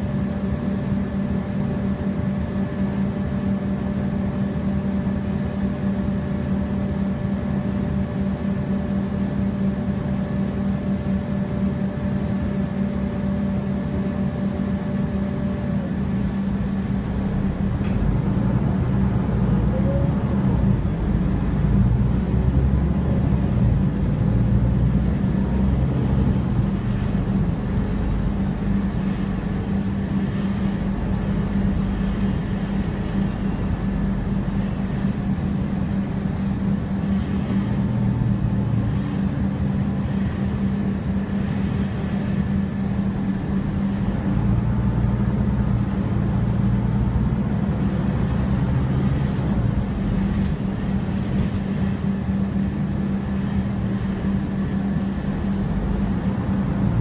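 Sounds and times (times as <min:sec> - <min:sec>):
bus engine and road hum: 0:00.0 - 0:57.0.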